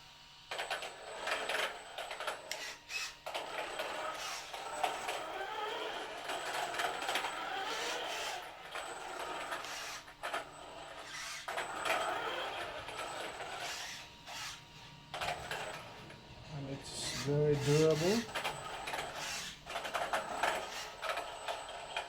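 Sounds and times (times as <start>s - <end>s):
toy truck motor whirring: 0.5s - 22.0s.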